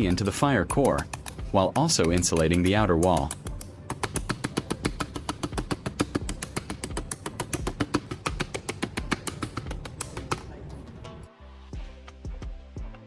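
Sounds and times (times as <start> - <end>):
tool tapping paste into metal: 0.0 - 10.8.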